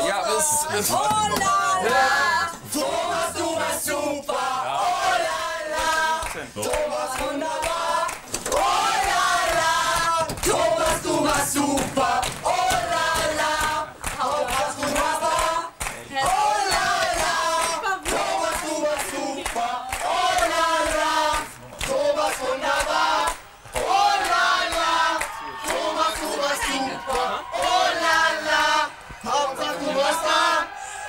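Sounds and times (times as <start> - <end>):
group singing or chanting: 0.0 - 31.0.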